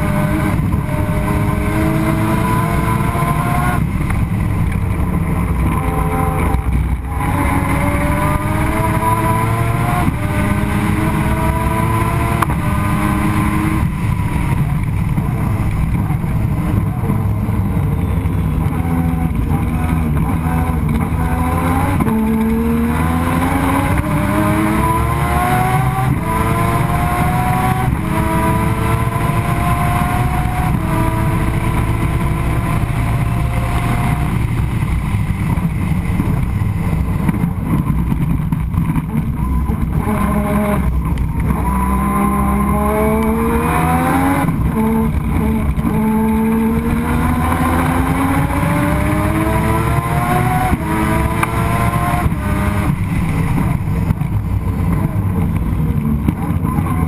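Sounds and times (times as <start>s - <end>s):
race car rotary engine revving: 0.0s - 57.0s.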